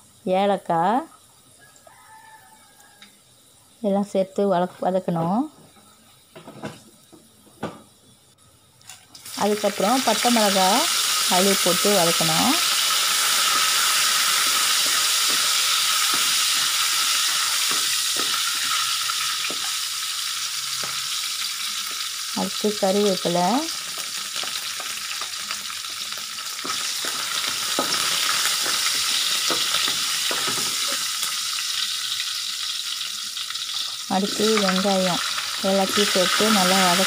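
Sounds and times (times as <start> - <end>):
spices sizzling in hot oil: 0.0 - 37.0.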